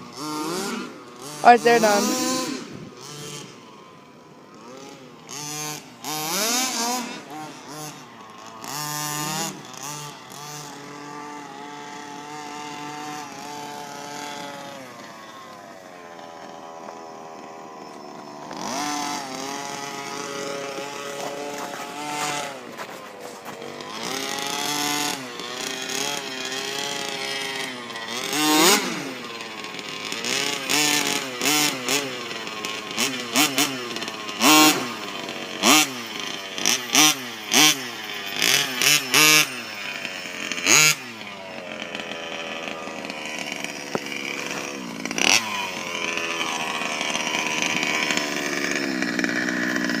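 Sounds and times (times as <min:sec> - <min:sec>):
small engine revving: 0:00.0 - 0:50.0.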